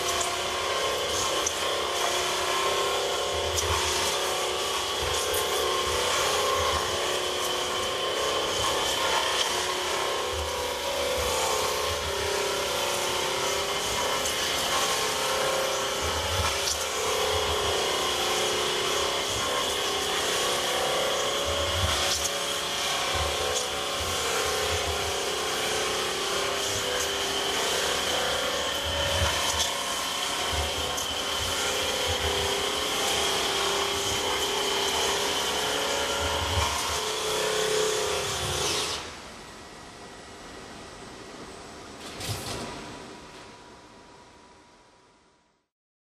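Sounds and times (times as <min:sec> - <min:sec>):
grinder scraping wood: 0:00.0 - 0:39.2
motor hum and high whine: 0:00.0 - 0:45.7.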